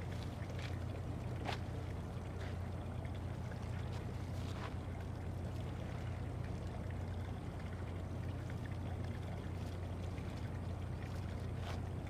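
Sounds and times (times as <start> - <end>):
ship engine rumble: 0.0 - 12.0
water wash: 0.0 - 12.0.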